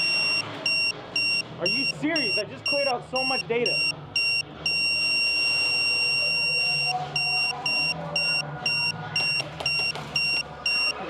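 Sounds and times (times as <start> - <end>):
high-pitched camera beeps: 0.0 - 11.0.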